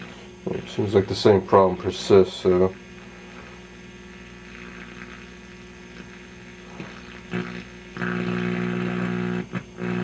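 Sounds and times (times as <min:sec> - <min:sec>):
radio speaker humming: 0:00.0 - 0:10.0.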